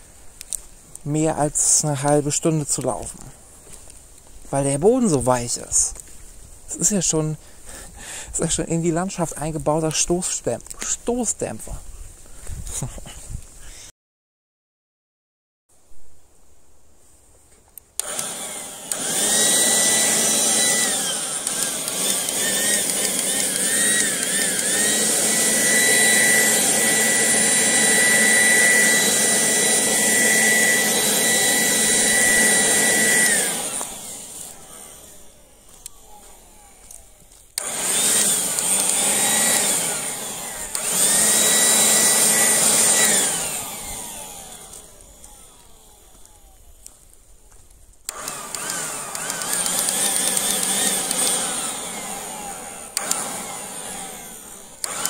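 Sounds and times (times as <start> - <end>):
leaf blower whining: 0.0 - 13.9, 17.4 - 55.0.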